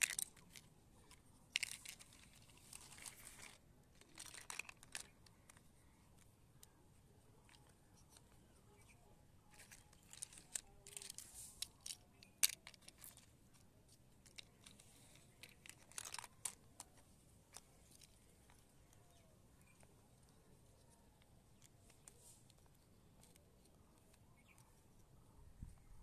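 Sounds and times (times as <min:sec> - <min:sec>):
plastic toys clicking and rustling: 0:00.0 - 0:24.8.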